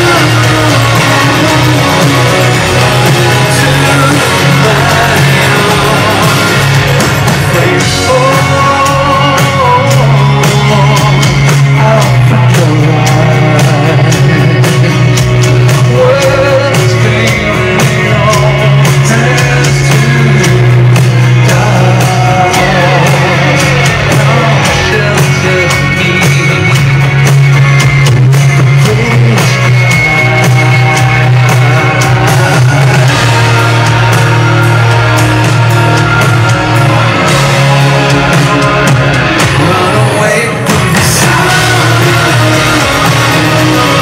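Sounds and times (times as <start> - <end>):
man singing: 0.0 - 27.2, 28.5 - 44.0
live rock band playing: 0.0 - 44.0.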